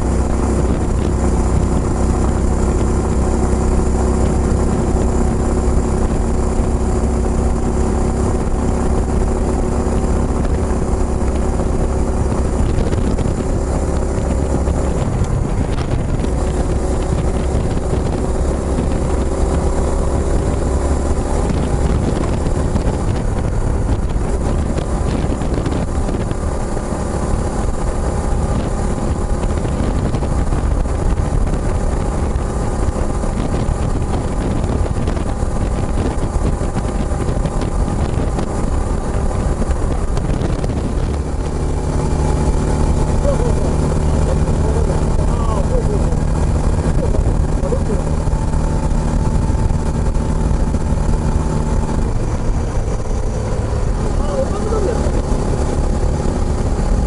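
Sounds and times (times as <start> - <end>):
motorcycle engine riding: 0.0 - 57.0
wind buffeting microphone: 0.0 - 57.0.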